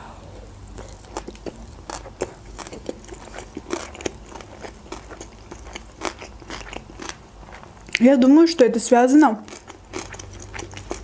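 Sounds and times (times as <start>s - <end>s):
person chewing food: 0.3s - 8.0s, 9.4s - 11.0s.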